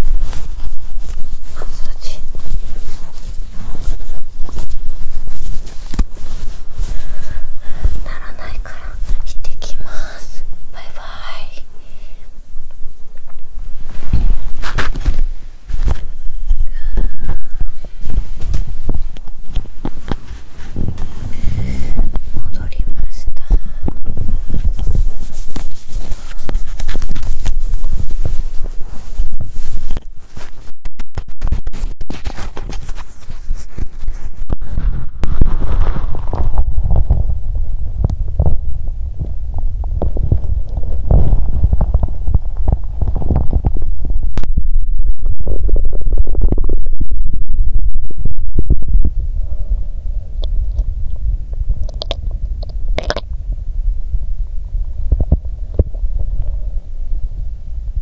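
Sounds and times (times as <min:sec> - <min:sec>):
microphone rubbing against clothing: 0:00.0 - 0:53.6, 0:54.8 - 0:58.0
stomach gurgling and rumbling: 0:00.0 - 0:58.0.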